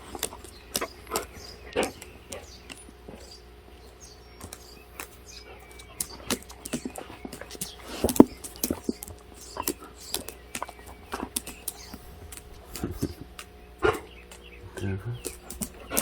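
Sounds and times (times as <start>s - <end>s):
dogs' paws clicking and tapping: 0.0s - 16.0s.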